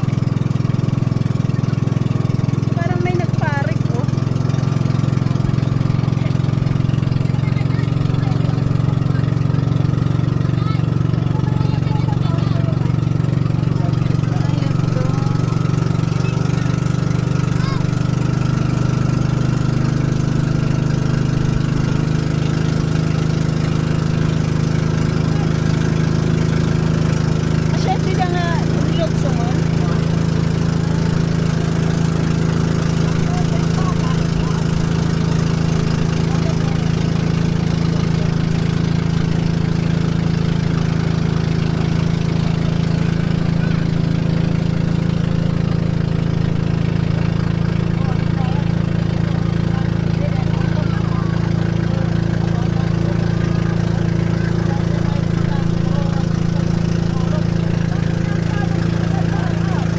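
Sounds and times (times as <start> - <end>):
motor boat engine running: 0.0 - 59.9.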